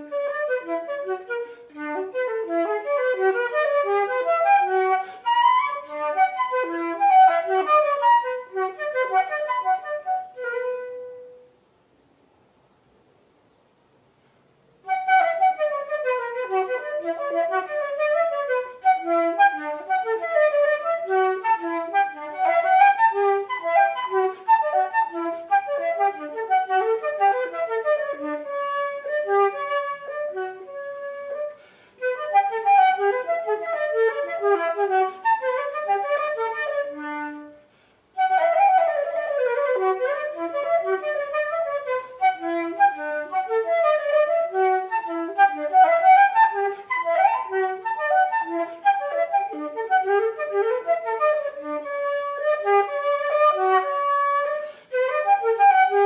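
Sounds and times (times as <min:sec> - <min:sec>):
flute playing fast runs: 0:00.0 - 0:11.4, 0:14.9 - 0:37.6, 0:38.2 - 0:56.0.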